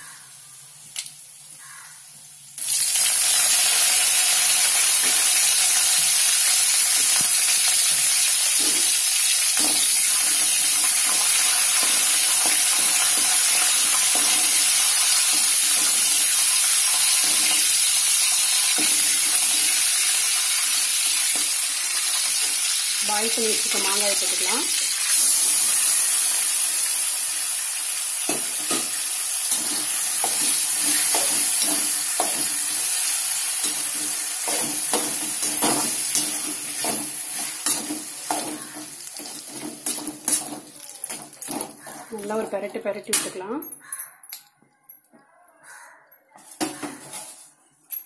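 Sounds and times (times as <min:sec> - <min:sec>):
leaves sizzling in hot oil: 0:00.0 - 0:42.9.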